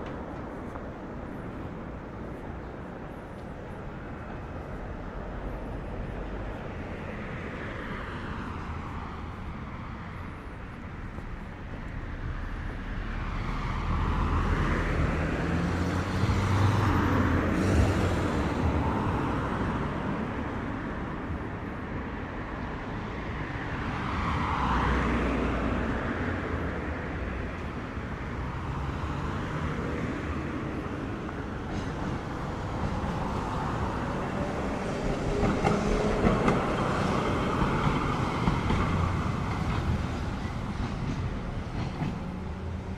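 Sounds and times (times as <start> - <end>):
low traffic rumble: 0.0 - 42.9
vehicles passing: 0.0 - 42.9.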